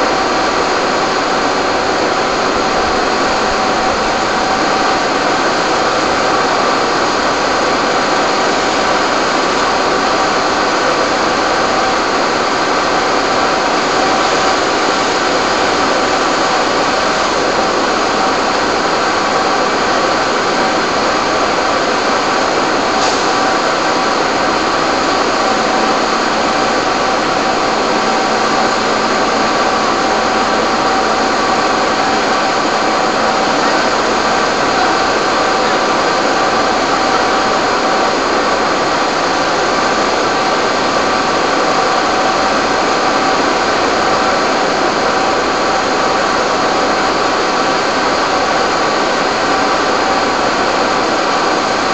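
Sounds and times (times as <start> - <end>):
fire engine pump engines: 0.0 - 51.9.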